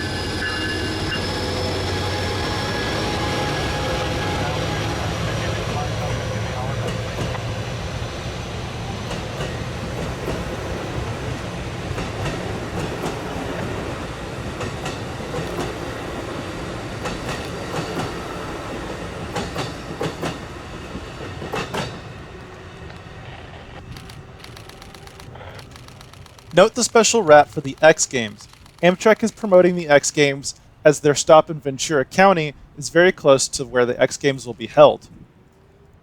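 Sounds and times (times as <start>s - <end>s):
wheels clicking over rail joints: 0.0s - 30.8s
train rumbling past: 0.0s - 36.0s.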